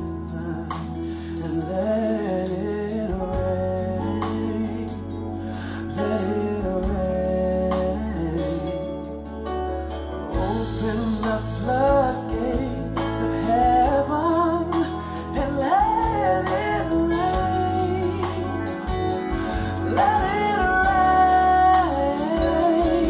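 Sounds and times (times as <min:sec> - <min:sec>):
gospel song over speakers: 0:00.0 - 0:23.0.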